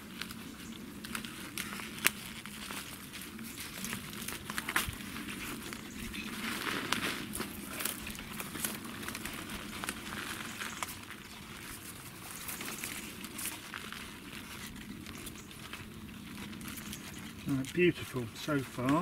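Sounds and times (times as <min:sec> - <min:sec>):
onions pulled from soil rustling: 0:00.0 - 0:19.0.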